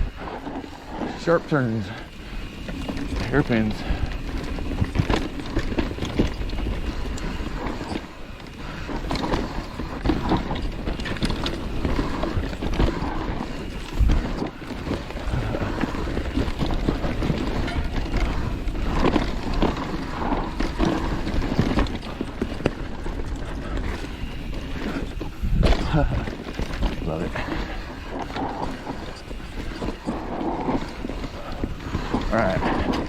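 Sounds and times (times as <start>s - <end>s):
bike clattering over bumps: 0.0s - 33.0s
wind rumbling on microphone: 0.0s - 33.0s
tyres crunching over dirt and rocks: 0.5s - 33.0s.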